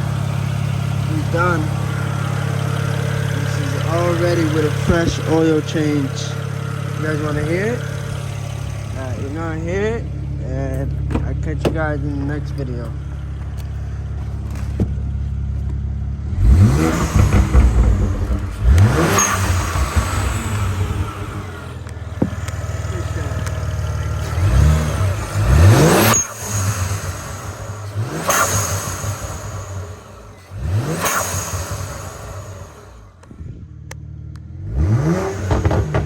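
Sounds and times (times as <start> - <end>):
sharp exhaust bursts: 0.0 - 10.6, 16.2 - 33.6, 34.6 - 36.0
car engine idling and revving: 0.0 - 36.0.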